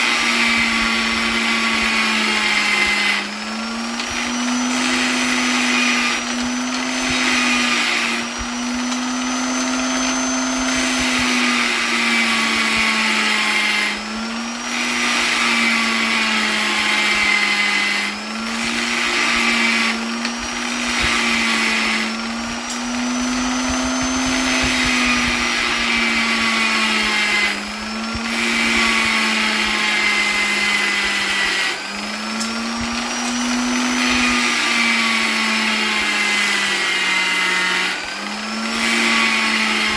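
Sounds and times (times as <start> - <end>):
electric polisher motor hum: 0.0 - 39.9.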